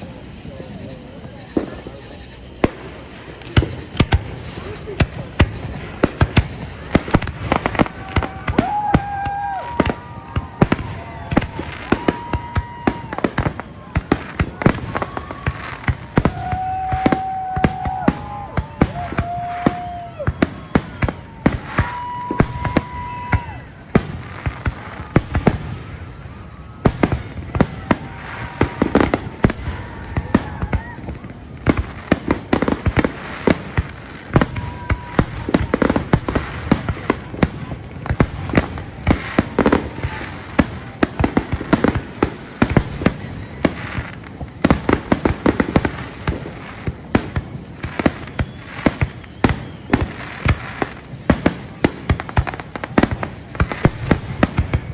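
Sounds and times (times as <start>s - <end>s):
firework whistle: 0.0s - 54.9s
fireworks bangs and crackles: 0.0s - 54.9s.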